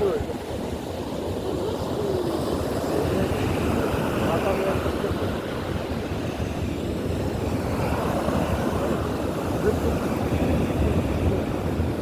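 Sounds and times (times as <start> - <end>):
surf breaking on beach: 0.0 - 12.0
wind on microphone: 0.0 - 12.0.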